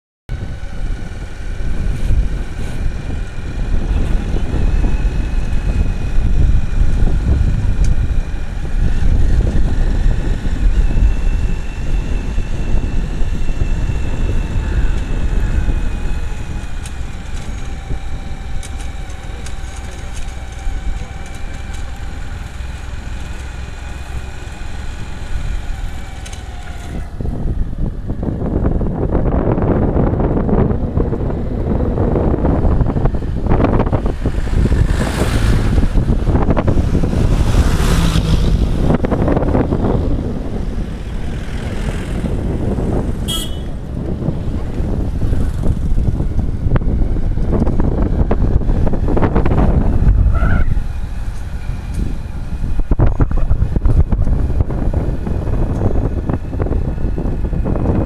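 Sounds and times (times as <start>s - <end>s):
wind buffeting microphone: 0.3s - 58.0s
motorbike engine running: 0.4s - 58.0s.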